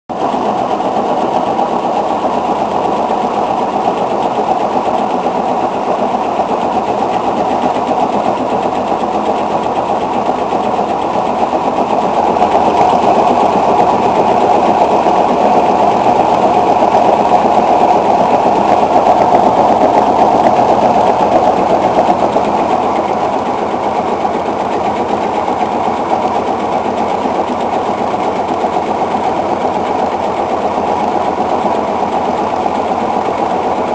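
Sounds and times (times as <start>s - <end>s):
washing machine spin rattle: 0.1s - 33.9s.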